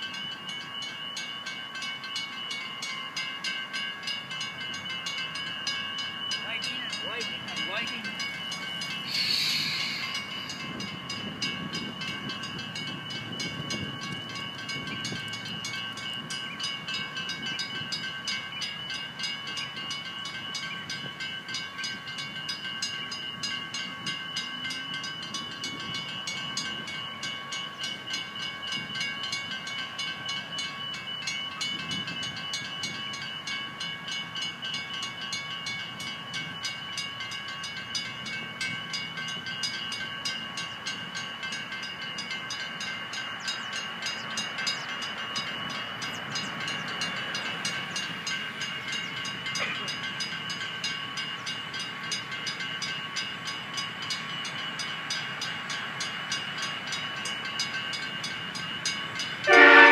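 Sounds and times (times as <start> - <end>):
level crossing warning bell: 0.0 - 59.9
train rumbling past: 0.0 - 59.9.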